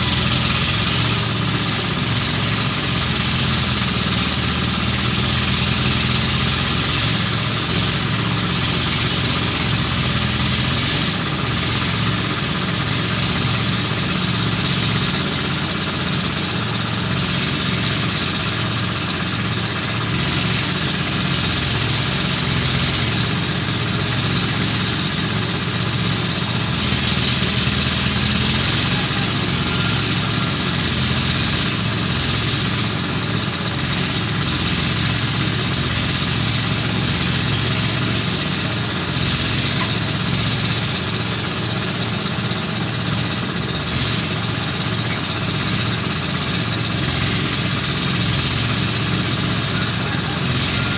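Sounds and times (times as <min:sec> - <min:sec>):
farm machinery engine running: 0:00.0 - 0:50.9.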